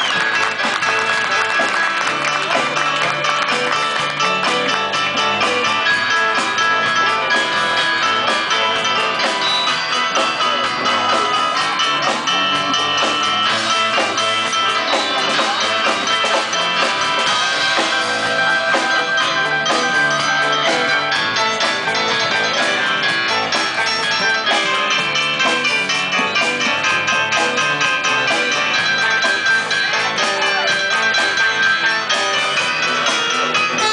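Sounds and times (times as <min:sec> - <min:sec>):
live band playing: 0:00.0 - 0:33.9.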